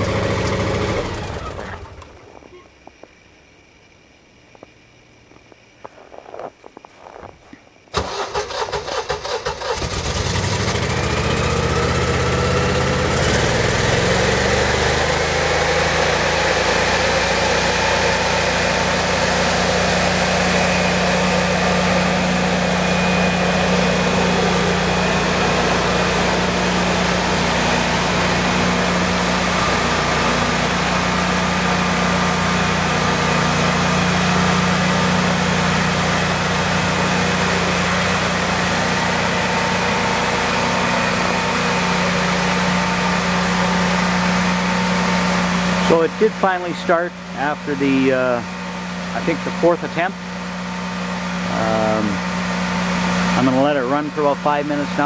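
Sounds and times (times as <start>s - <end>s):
generator engine cranking: 0.0s - 2.4s, 7.9s - 55.0s
generator engine running: 0.0s - 2.6s, 7.9s - 55.0s.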